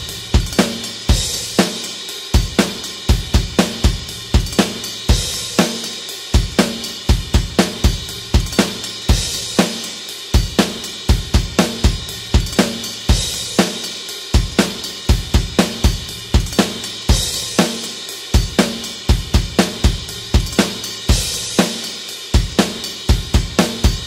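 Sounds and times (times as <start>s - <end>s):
crash cymbal: 0.0s - 24.0s
rock drum beat: 0.0s - 24.0s.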